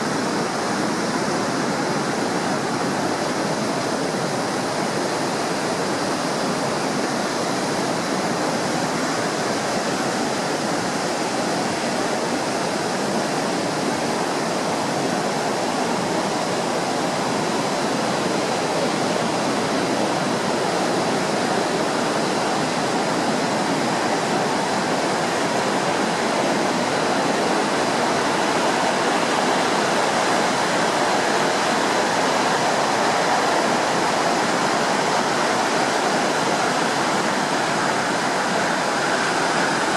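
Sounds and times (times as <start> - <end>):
heavy surf breaking waves: 0.0 - 39.9.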